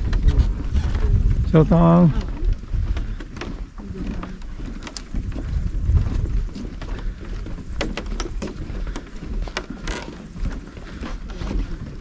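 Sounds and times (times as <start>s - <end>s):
footsteps on wooden boards: 0.0s - 12.0s
wind buffeting microphone: 0.0s - 12.0s.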